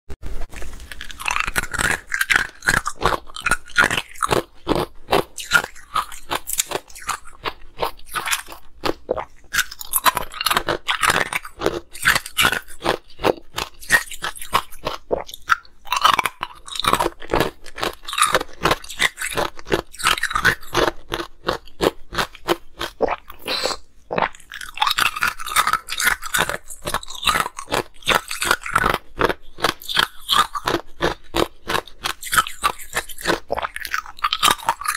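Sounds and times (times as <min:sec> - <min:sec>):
ice being chewed: 0:00.5 - 0:34.9.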